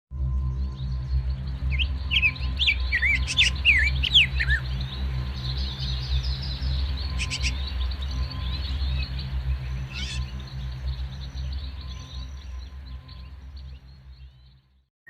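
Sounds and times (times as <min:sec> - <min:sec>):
steady low hum: 0:00.1 - 0:14.8
birds chirping: 0:00.5 - 0:14.7.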